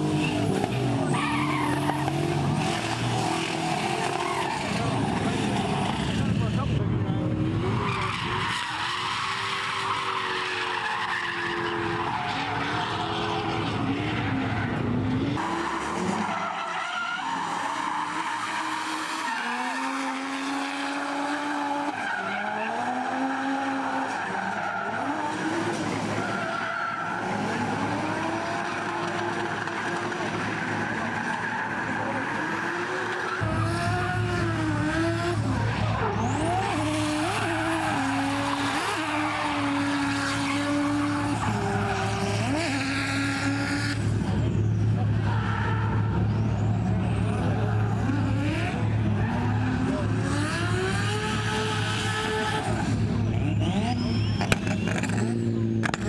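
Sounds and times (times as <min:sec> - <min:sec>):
car engines revving: 0:00.0 - 0:56.0
tyres skidding: 0:00.0 - 0:56.0.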